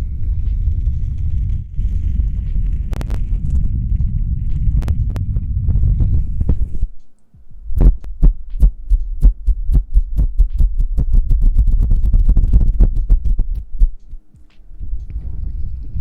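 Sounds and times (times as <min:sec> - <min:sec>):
rhythmic patting thumps: 0:00.0 - 0:16.0.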